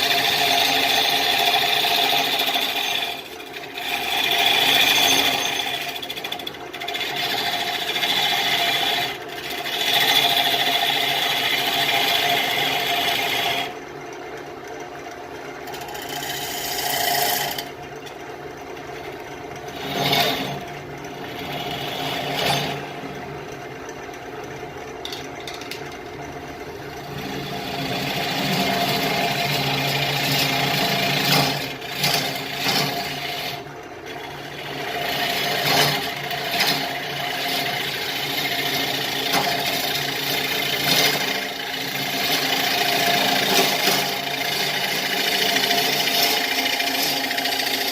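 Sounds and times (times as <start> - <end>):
turning tool scraping wood: 0.0 - 13.7, 15.6 - 18.2, 19.0 - 23.0, 27.0 - 47.9
lathe motor hum: 0.0 - 47.9.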